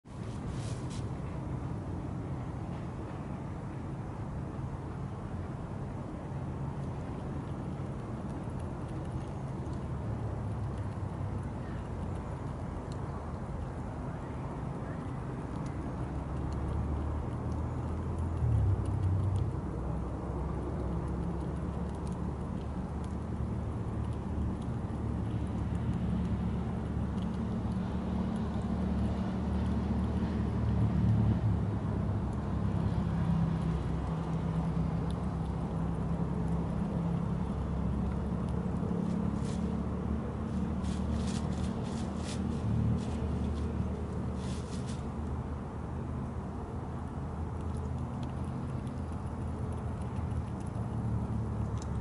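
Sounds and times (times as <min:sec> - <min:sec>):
engine hum: 0:00.0 - 0:52.0
road traffic rumble: 0:00.0 - 0:52.0.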